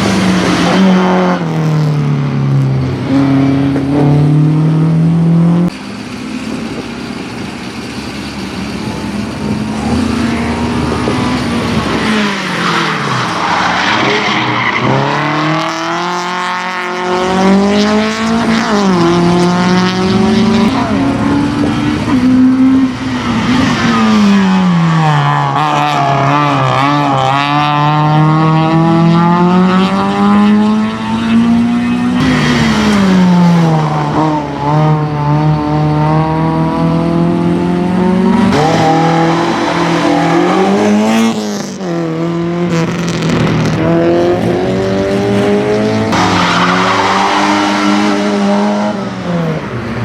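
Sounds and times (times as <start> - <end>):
racing car engine: 0.0 - 50.0.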